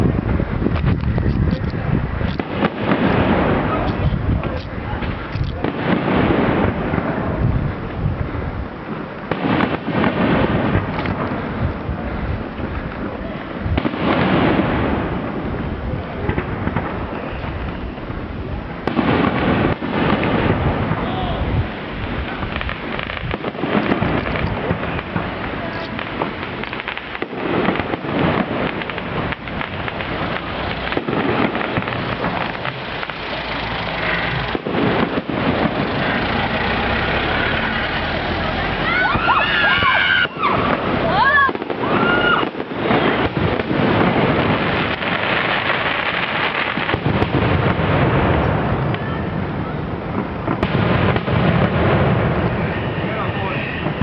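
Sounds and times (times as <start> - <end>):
low rumbling: 0.0 - 46.0
fireworks bangs and crackles: 0.0 - 54.0.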